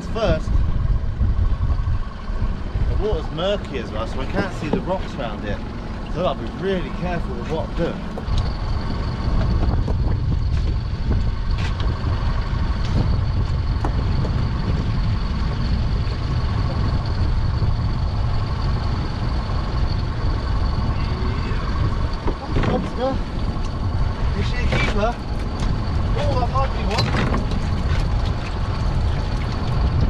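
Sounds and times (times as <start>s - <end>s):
boat motor humming: 0.0s - 30.0s
wind rumbling on microphone: 0.0s - 30.0s.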